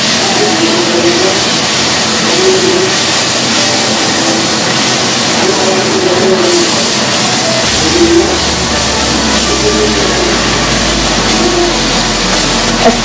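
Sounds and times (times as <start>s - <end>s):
masala sizzling in a wok: 0.0s - 13.0s.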